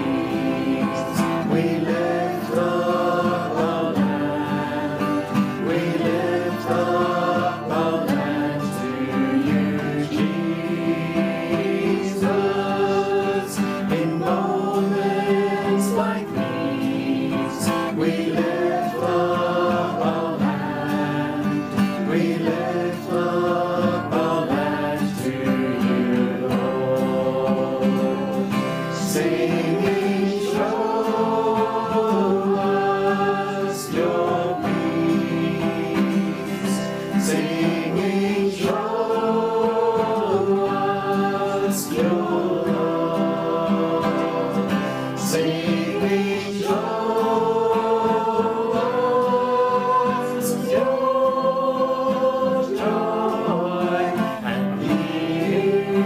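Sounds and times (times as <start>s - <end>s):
voices singing worship song: 0.0s - 56.0s.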